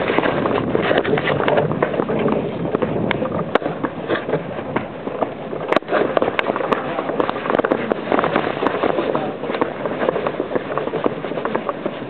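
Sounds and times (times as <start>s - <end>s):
cart rumbling: 0.0s - 12.0s
hooves clip-clopping on pavement: 0.0s - 12.0s.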